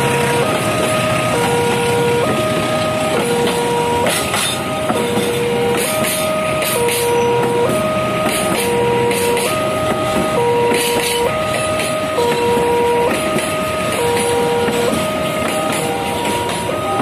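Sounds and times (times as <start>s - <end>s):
level-crossing two-tone alarm: 0.0s - 17.0s
train wheels clattering on rails: 0.0s - 17.0s.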